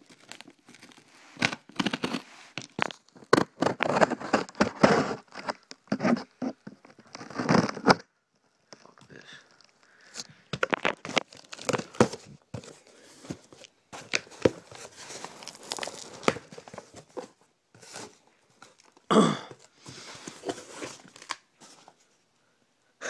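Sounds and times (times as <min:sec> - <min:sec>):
tearing and rustling packing: 0:00.0 - 0:08.0, 0:10.1 - 0:22.0.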